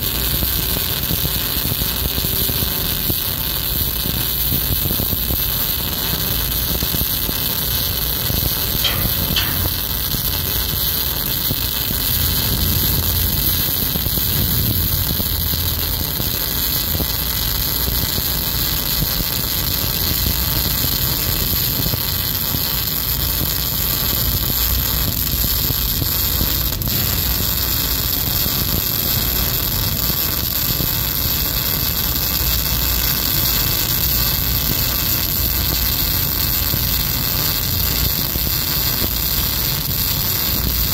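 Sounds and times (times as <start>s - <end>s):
electric arc welding: 0.0s - 40.9s.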